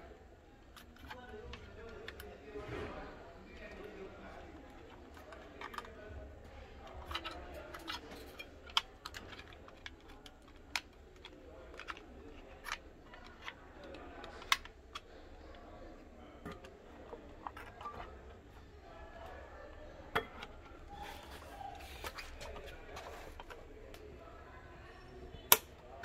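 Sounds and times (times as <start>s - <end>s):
plastic parts clicking: 0.6s - 24.6s, 25.3s - 26.0s.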